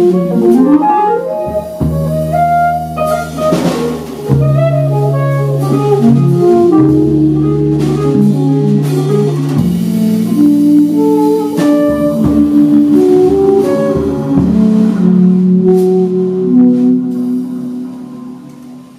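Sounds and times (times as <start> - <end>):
double bass: 0.0 - 18.9
electric keyboard: 0.0 - 18.9
light drumming: 0.0 - 18.9
saxophone: 0.0 - 18.9.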